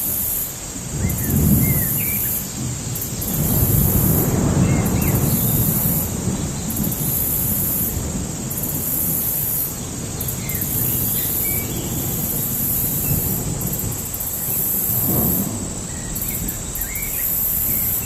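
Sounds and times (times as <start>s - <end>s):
distant thunder rumble: 0.6s - 18.0s.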